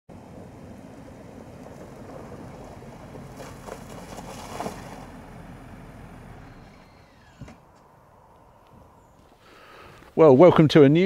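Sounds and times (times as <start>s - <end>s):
engine and tyre rumble: 0.1s - 10.4s.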